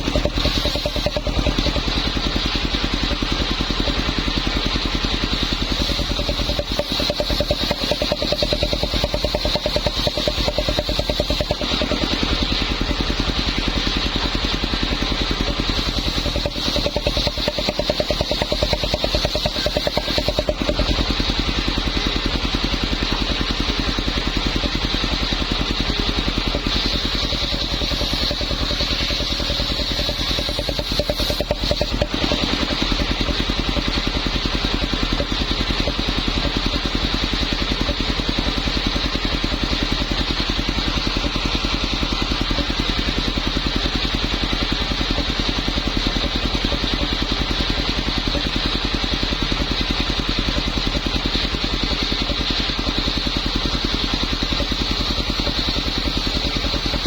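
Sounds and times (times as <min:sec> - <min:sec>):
saw blade whine: 0:00.0 - 0:57.0
saw engine chugging: 0:00.0 - 0:57.0.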